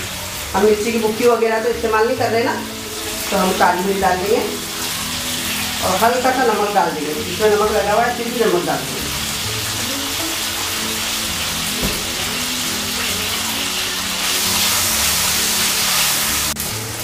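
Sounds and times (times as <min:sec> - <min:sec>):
background music: 0:00.0 - 0:17.0
chicken sizzling in hot oil: 0:00.0 - 0:17.0.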